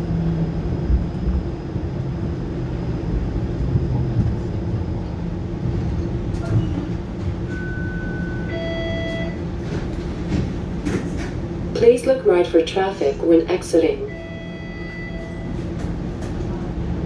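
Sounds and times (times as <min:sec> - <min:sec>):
streetcar wheels rumbling on rail: 0:00.0 - 0:17.0.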